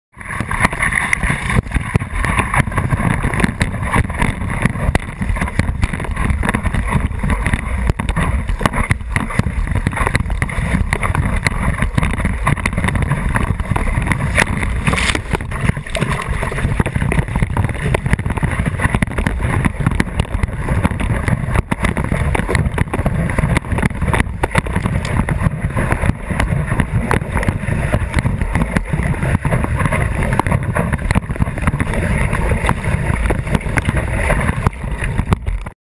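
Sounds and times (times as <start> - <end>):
water rushing against surfboard: 0.1 - 35.8
wind on microphone: 0.2 - 35.7.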